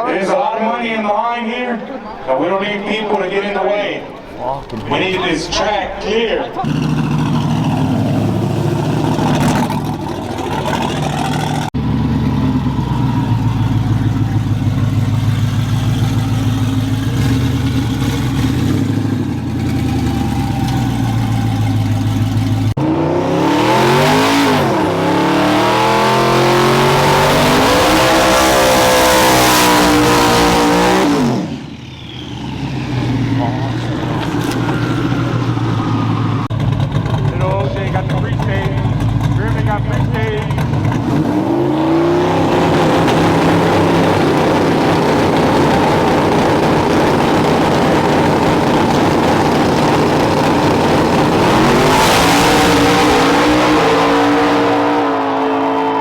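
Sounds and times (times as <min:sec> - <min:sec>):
drag truck engines rumbling: 0:00.0 - 0:56.0
truck accelerating hard: 0:00.0 - 0:56.0.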